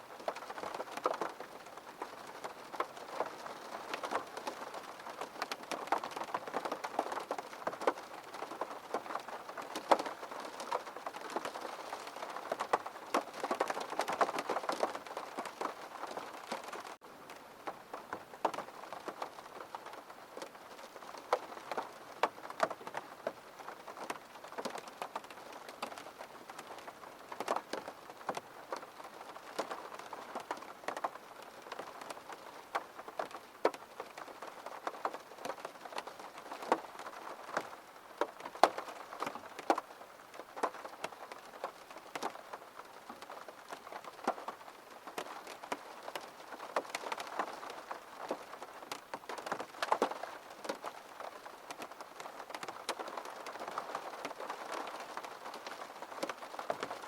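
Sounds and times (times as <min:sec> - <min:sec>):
rain tapping on window glass: 0:00.1 - 0:57.0.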